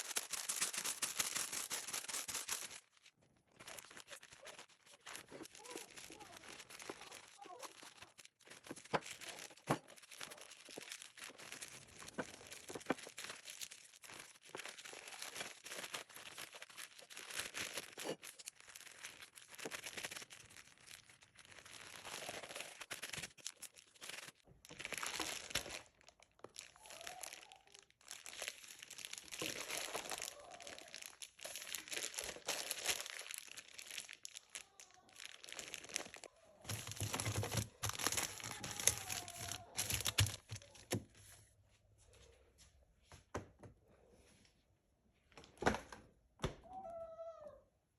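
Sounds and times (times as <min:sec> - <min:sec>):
plastic packaging crinkling: 0:00.0 - 0:41.1.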